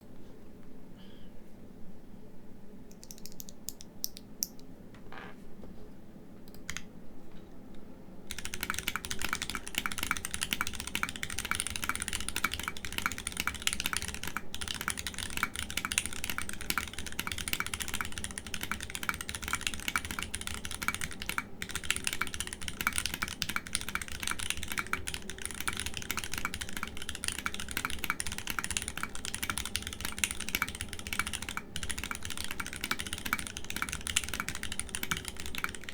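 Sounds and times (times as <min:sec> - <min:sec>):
mechanical keyboard typing: 0:02.9 - 0:04.6, 0:08.3 - 0:35.9.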